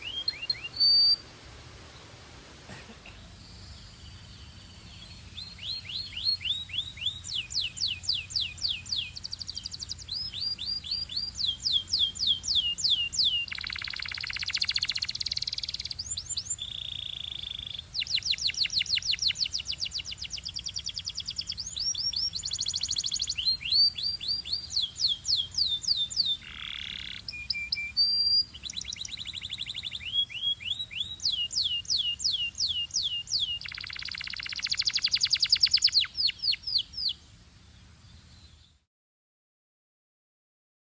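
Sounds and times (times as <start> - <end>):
canary singing trills: 0.0 - 1.3, 3.2 - 38.8.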